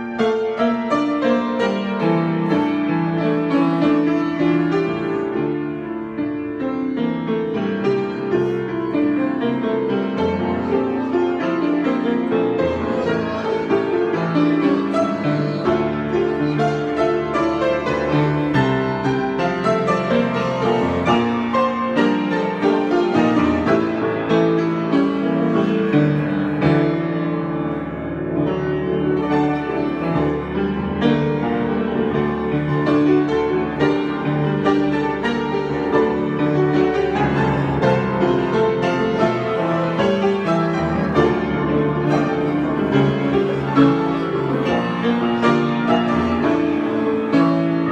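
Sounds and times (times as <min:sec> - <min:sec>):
solo piano improvisation: 0:00.0 - 0:47.9.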